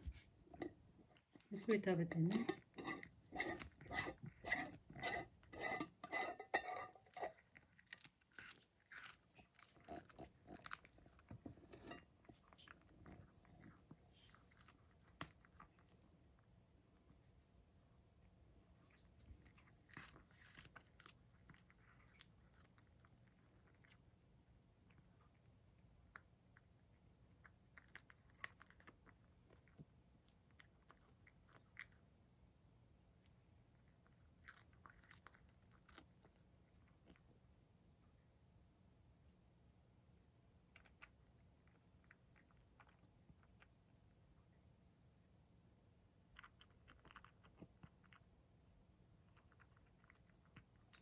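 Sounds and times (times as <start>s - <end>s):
cat chewing and crunching: 0.0s - 38.0s, 40.3s - 51.0s.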